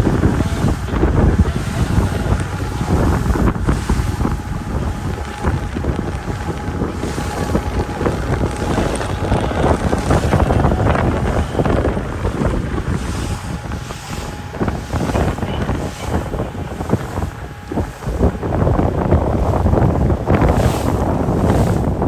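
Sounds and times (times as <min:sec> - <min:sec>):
sea water rushing: 0:00.0 - 0:22.0
wind buffeting microphone: 0:00.0 - 0:22.0.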